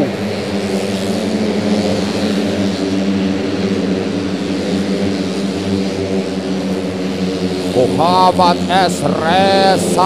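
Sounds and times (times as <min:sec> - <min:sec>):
scooter engines droning past: 0:00.0 - 0:10.0.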